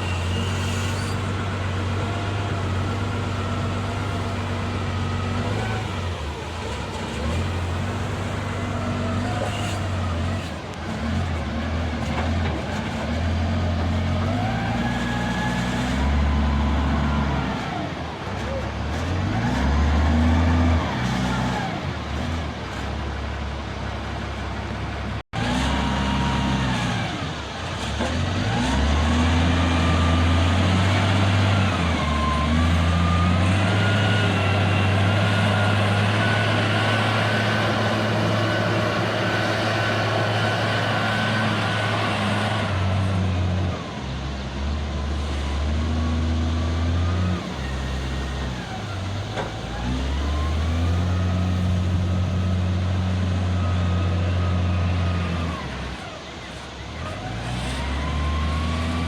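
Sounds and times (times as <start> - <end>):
backhoe diesel engine working hard: 0.0 - 59.0.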